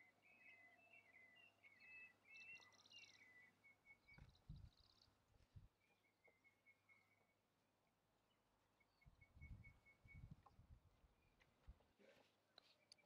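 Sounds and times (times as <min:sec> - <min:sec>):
songbird chirping and trilling: 0:00.0 - 0:07.5, 0:08.2 - 0:11.6.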